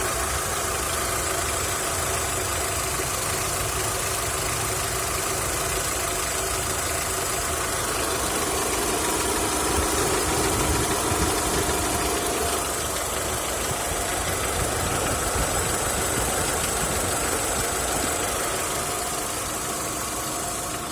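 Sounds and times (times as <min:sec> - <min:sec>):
engine idling with knock: 0:00.0 - 0:20.9.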